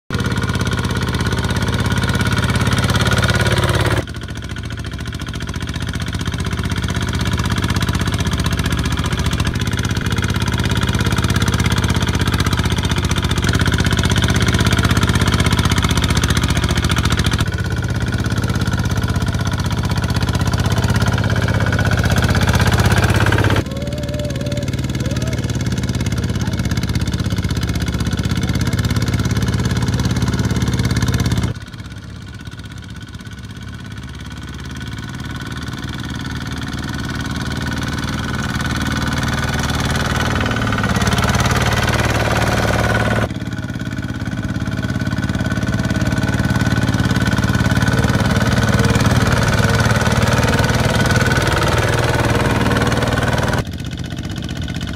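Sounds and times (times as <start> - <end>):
diesel tractor engines running: 0.1 - 54.9.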